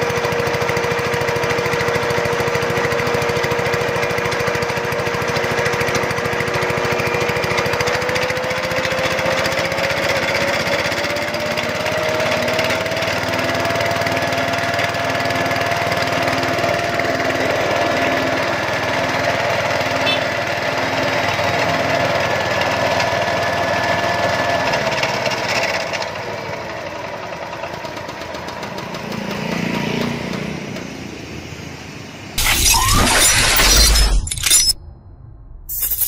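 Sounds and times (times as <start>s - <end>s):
small engine driving a mill: 0.0s - 31.1s.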